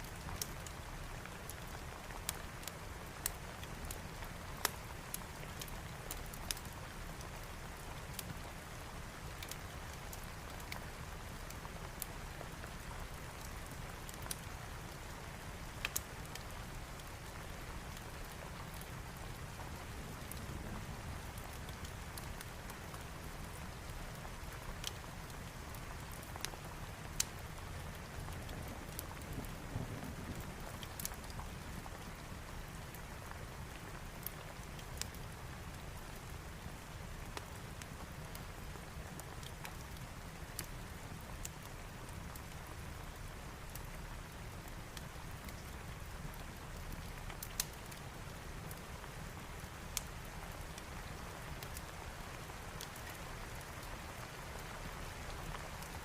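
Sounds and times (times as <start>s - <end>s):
steady rain: 0.0s - 56.0s
wood fire crackling: 0.0s - 56.0s.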